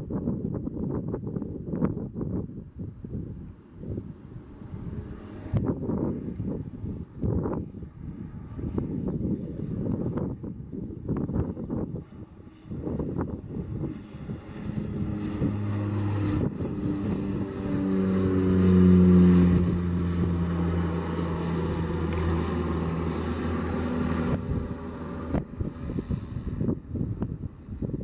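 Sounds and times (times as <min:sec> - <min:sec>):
turboprop plane droning past: 0:00.0 - 0:28.0.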